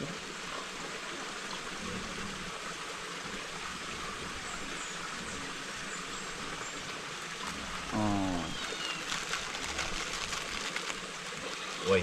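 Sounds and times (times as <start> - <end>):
small stream flowing: 0.0 - 12.0.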